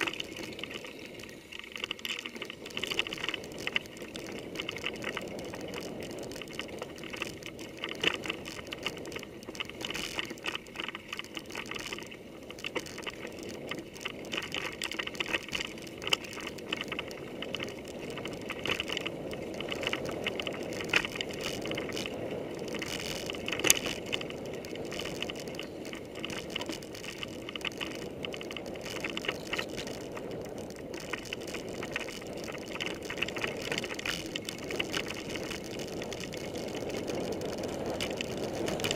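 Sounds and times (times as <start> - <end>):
bike rattling and knocking: 0.0 - 0.8, 1.7 - 38.9
bike tyre and drivetrain noise: 0.0 - 38.9.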